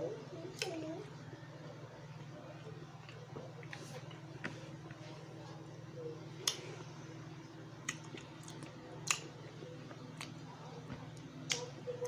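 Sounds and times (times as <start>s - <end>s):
low steady hum: 0.0s - 12.0s
soft chewing: 0.0s - 12.0s.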